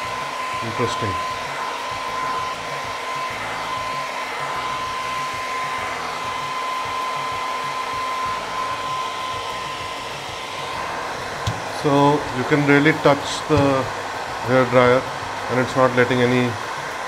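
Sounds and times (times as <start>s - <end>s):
thin whine: 0.0s - 16.9s
hair dryer blowing air: 0.0s - 17.0s.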